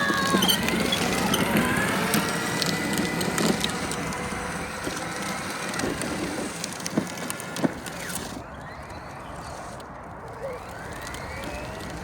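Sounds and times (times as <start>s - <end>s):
faint high motor whine: 0.0s - 12.0s.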